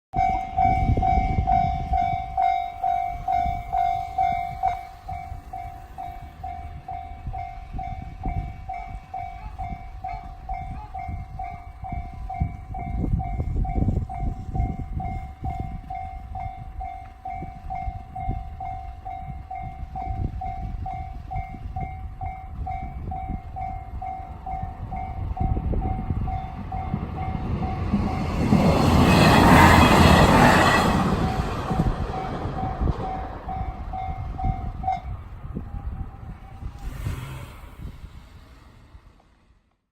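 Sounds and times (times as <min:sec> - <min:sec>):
level crossing warning bell: 0:00.2 - 0:36.7
train rumbling: 0:00.2 - 0:39.7.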